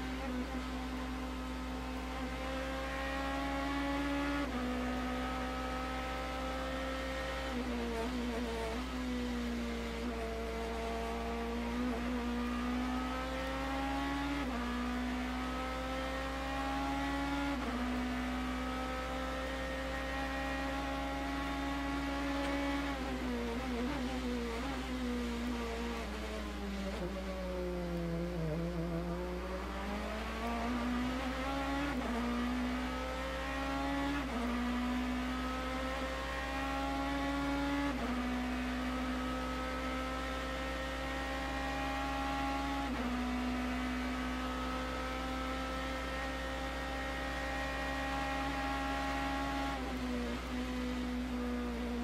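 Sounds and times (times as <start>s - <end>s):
race car engine accelerating: 0.0s - 52.0s.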